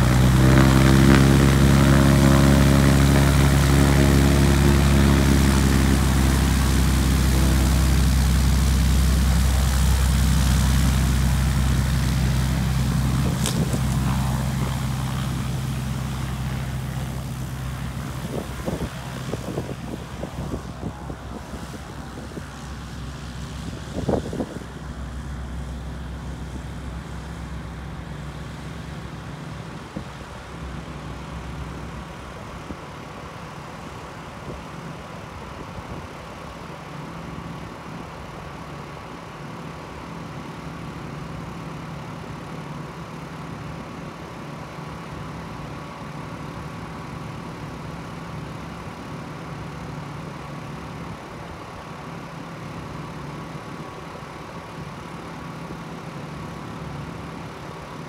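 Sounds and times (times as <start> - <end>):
propeller plane engine droning: 0.0 - 58.0.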